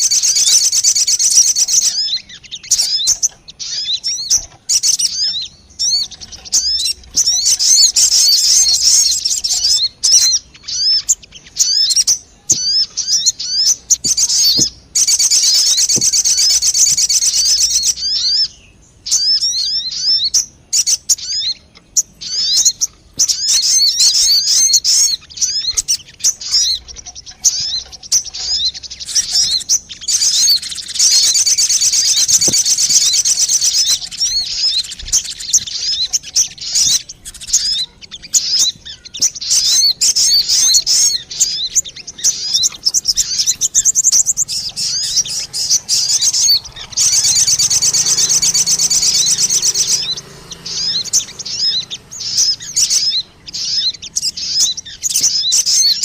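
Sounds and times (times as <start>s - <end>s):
bird trills and chirps: 0.0s - 56.0s.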